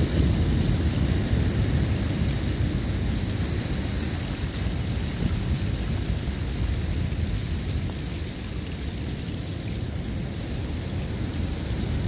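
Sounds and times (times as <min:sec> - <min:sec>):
rushing water: 0:00.0 - 0:12.0
wind buffeting microphone: 0:00.0 - 0:12.0
wind rumble: 0:00.0 - 0:12.0.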